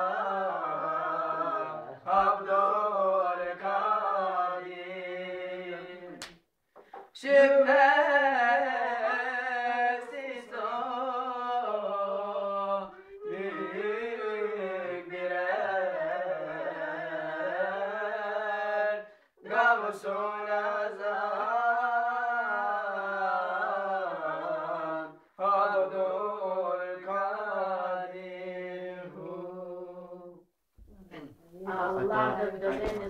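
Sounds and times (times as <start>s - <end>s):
young men singing a cappella hymn: 0.0s - 6.2s, 6.8s - 30.5s, 31.7s - 33.0s.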